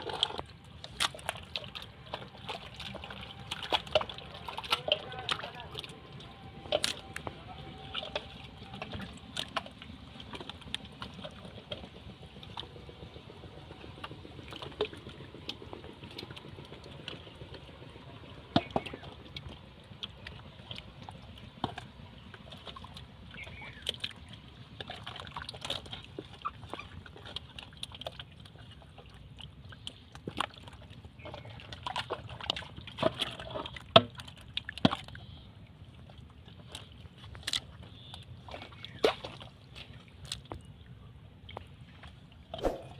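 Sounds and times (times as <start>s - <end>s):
mud and water sloshing: 0.0s - 42.9s.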